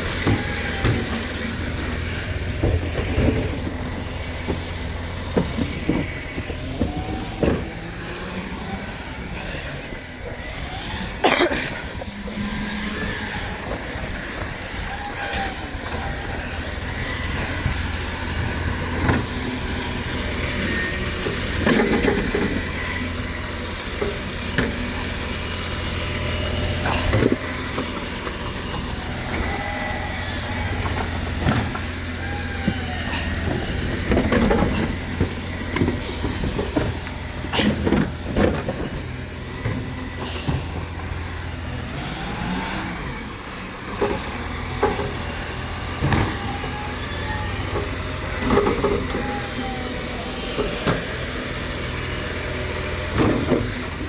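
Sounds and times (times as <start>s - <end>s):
short squeals: 0.0s - 24.0s, 25.7s - 43.2s, 45.6s - 51.5s
truck engine running: 0.0s - 54.0s.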